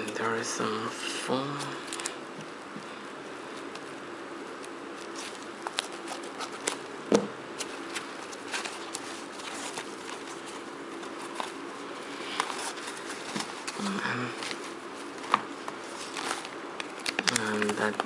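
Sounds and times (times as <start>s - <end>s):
steady low hum: 0.0s - 18.0s
packaging foam rustling: 3.4s - 18.0s.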